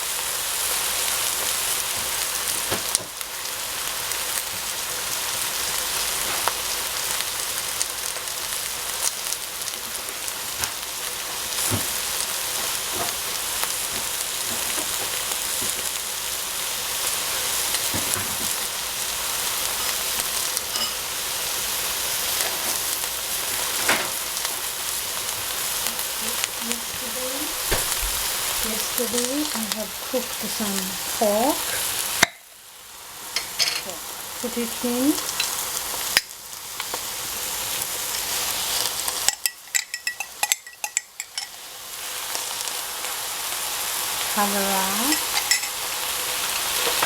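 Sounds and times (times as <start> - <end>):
food sizzling in oil: 0.0 - 47.0.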